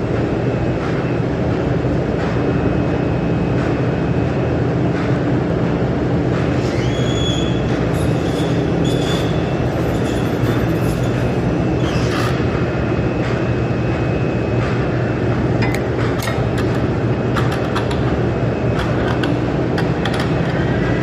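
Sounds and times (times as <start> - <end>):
machinery rumble: 0.0 - 21.0.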